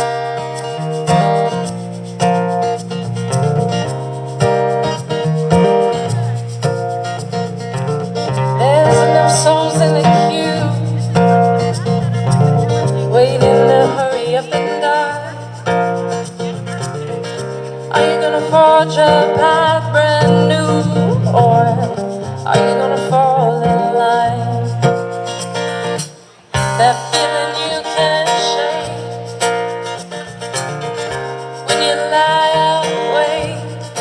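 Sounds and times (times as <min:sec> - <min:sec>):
sliding guitar melody: 0:00.0 - 0:34.0
strummed acoustic guitar chords: 0:00.0 - 0:34.0.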